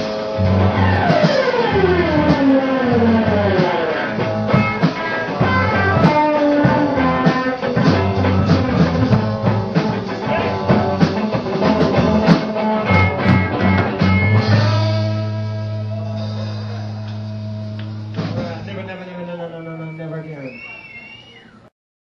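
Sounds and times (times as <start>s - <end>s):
guitars: 0.0s - 18.8s
bass guitar: 0.0s - 19.0s
drum kit beat: 0.0s - 19.0s.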